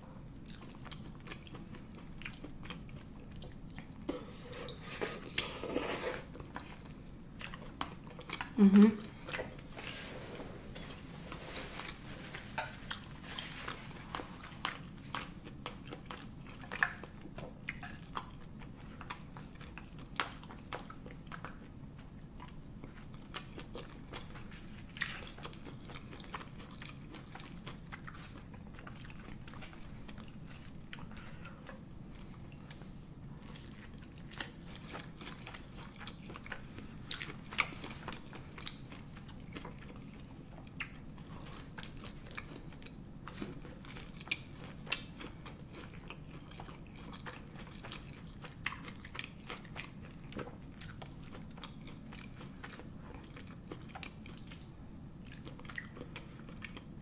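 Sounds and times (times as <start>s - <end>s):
low background hum: 0.0s - 57.0s
wet chewing sounds: 0.4s - 5.4s, 6.3s - 57.0s.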